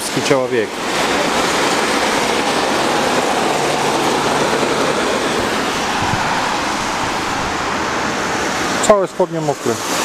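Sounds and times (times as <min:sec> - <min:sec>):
car tyres spraying through water: 0:00.0 - 0:10.0.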